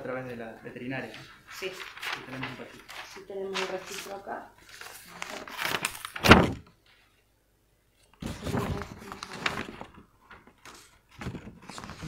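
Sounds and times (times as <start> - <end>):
paper rustling: 0.9 - 7.1, 8.0 - 12.0.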